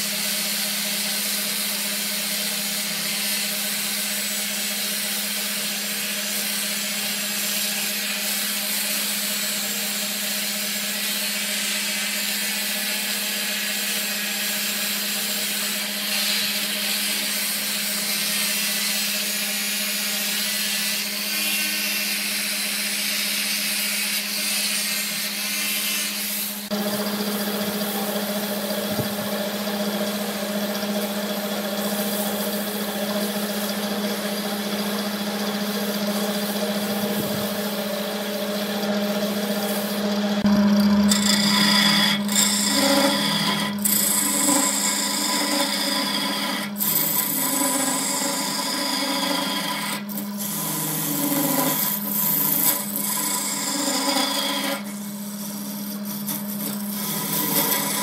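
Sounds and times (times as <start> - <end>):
chisel scraping spinning wood: 0.0 - 58.0
lathe motor humming: 0.0 - 58.0
sandpaper rubbing spinning wood: 0.0 - 58.0.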